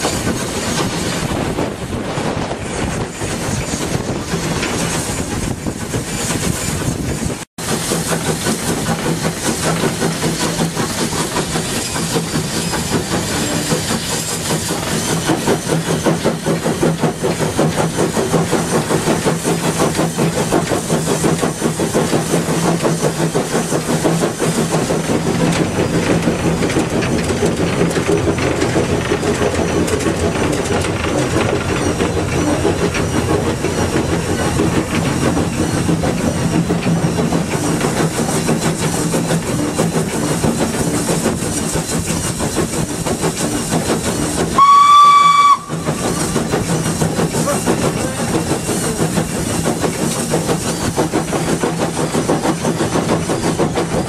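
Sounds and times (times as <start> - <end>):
hiss of steam: 0.0 - 28.0, 28.6 - 54.0
steam engine beat: 0.0 - 54.0
wheels on rails: 0.0 - 54.0.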